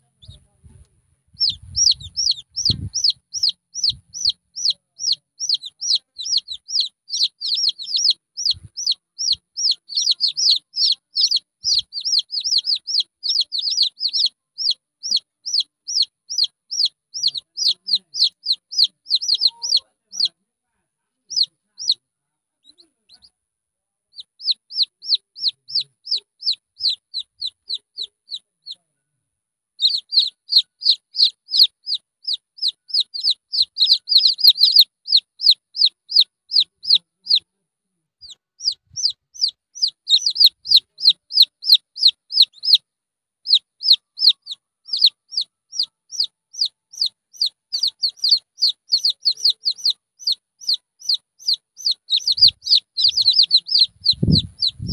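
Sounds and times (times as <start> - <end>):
chicks peeping: 0.2 - 20.3, 21.3 - 22.0, 24.1 - 28.8, 29.8 - 37.4, 38.2 - 42.8, 43.4 - 54.9.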